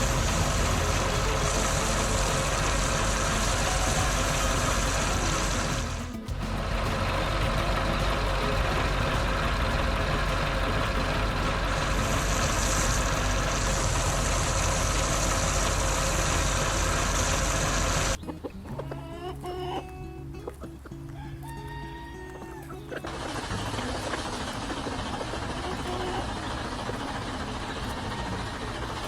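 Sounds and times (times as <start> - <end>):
cartoon tractor engine: 0.0 - 21.2, 22.8 - 29.0
chickens clucking: 0.0 - 29.0
light background music: 0.0 - 29.0.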